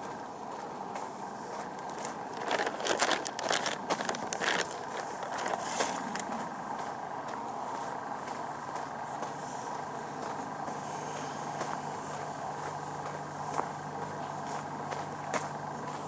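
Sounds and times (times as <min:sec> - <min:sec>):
footsteps on gravel: 0:00.0 - 0:16.0
outdoor background hiss: 0:00.0 - 0:16.0.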